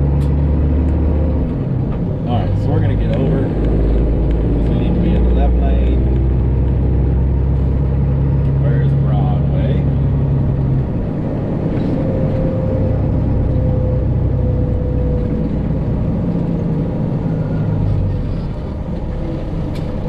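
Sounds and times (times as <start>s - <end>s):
truck diesel engine drone: 0.0s - 20.0s.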